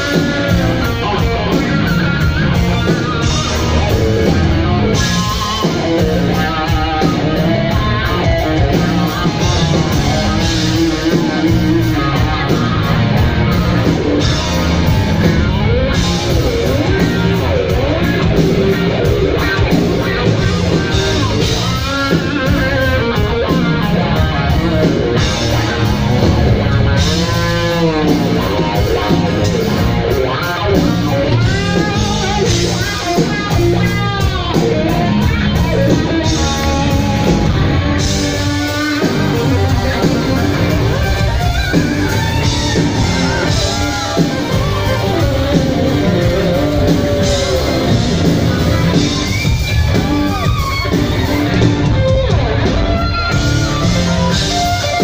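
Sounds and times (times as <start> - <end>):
bass: 0.0 - 55.0
drums: 0.0 - 55.0
electric guitar: 0.0 - 55.0.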